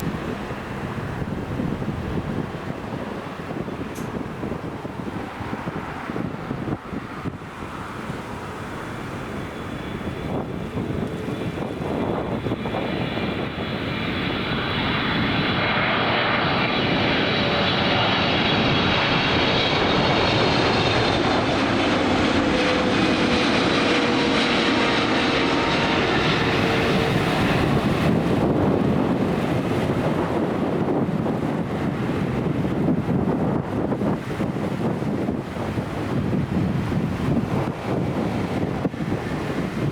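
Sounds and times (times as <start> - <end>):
jet airliner engine roar: 0.0 - 39.9.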